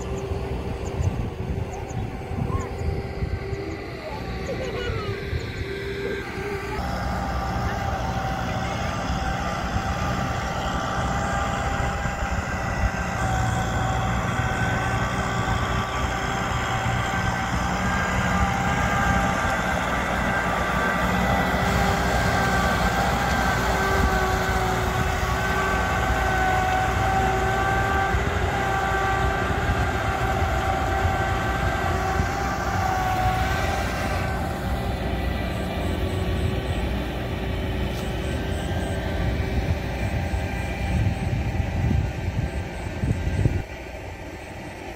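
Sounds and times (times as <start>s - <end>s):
diesel engine rumbling: 0.0s - 44.9s
steady high whine: 0.0s - 44.9s.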